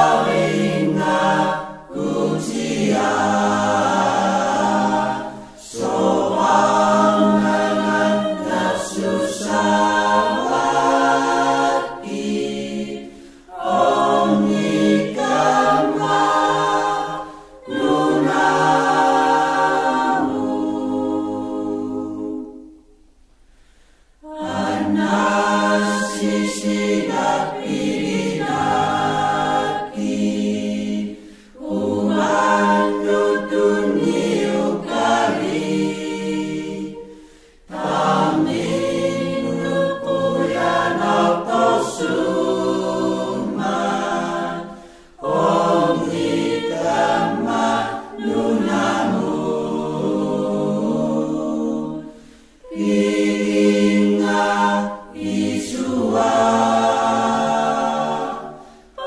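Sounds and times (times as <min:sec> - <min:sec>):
choir singing a hymn: 0:00.0 - 0:23.1, 0:24.2 - 0:59.0.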